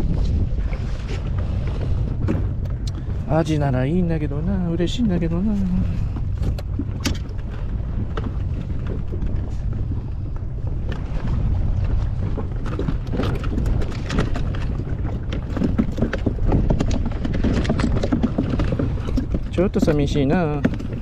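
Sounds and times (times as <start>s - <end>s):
water against inflatable boat: 0.0s - 21.0s
wind buffeting microphone: 0.0s - 21.0s.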